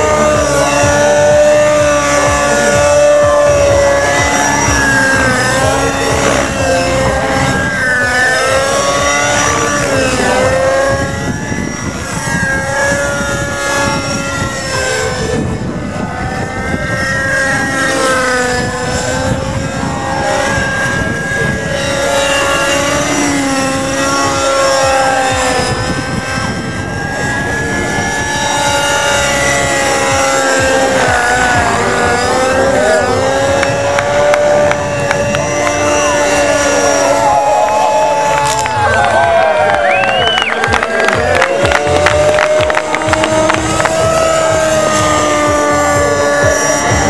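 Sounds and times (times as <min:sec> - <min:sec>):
model helicopter engine whining: 0:00.0 - 0:47.0.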